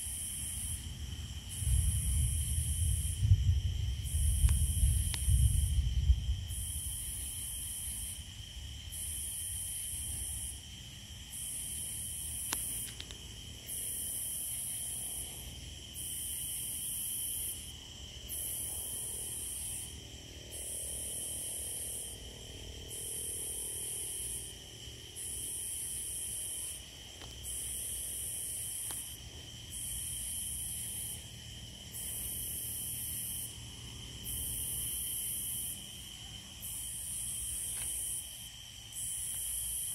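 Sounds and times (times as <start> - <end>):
high-pitched insect trill: 0.0 - 39.9
pulsing insect chorus: 0.0 - 39.9.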